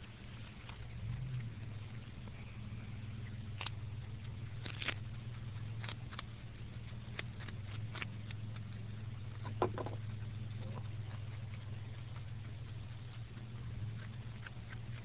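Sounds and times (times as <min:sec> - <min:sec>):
animal crunching a carrot: 0:00.0 - 0:15.0
steady low hum: 0:00.0 - 0:15.0.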